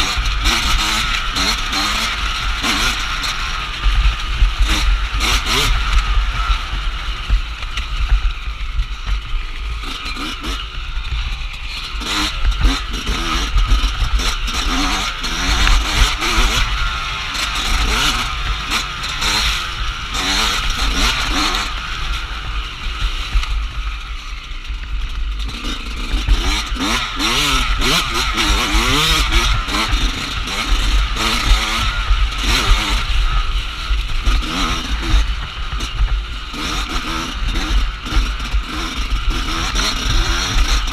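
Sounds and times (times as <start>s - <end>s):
bike rattling over rough ground: 0.0s - 40.9s
dirt bike engine revving: 0.0s - 40.9s.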